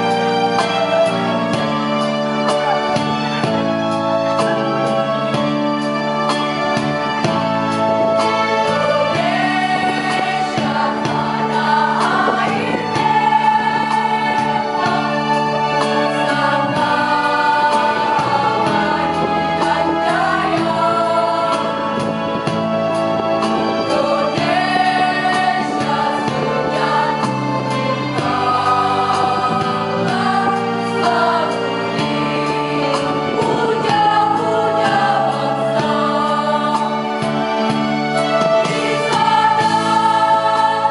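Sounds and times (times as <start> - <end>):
choir singing in parts: 0.0 - 40.9
instrumental accompaniment: 0.0 - 40.9.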